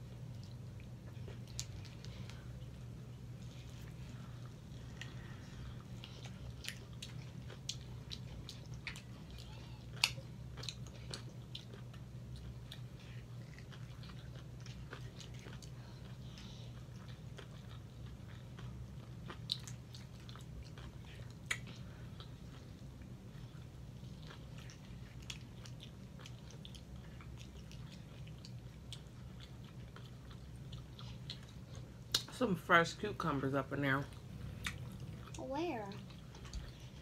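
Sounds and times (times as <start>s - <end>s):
people chewing and biting food: 0.0s - 37.0s.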